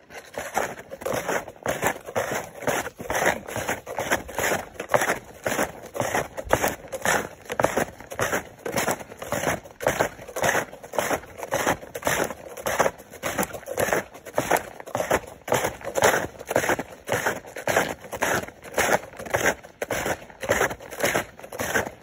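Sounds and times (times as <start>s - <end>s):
snowshoe footsteps crunching snow: 0.0s - 22.0s.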